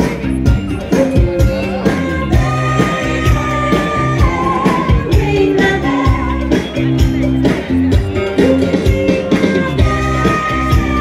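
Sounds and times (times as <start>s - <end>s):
loud music with singer and drums: 0.0s - 11.0s.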